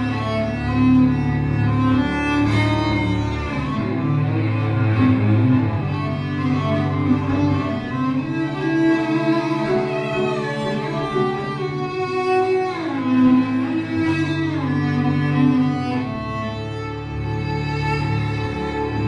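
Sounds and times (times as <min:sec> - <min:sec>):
layered bowed cello: 0:00.0 - 0:19.0.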